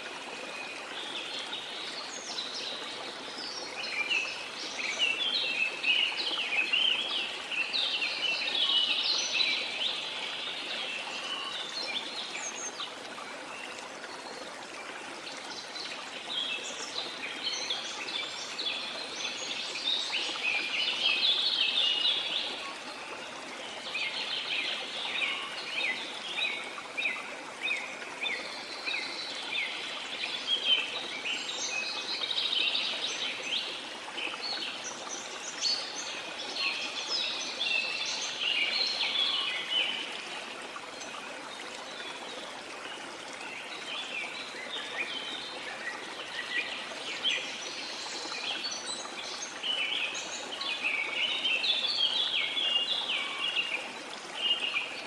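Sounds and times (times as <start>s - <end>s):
flowing stream: 0.0s - 55.0s.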